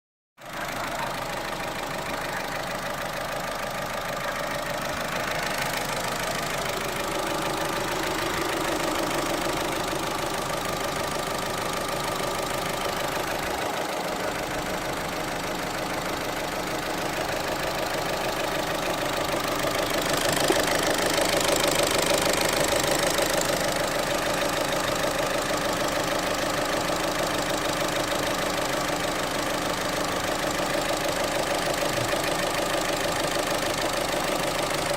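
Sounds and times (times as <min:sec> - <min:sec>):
car engine idling: 0:00.4 - 0:34.9
engine knocking noise: 0:00.4 - 0:34.9.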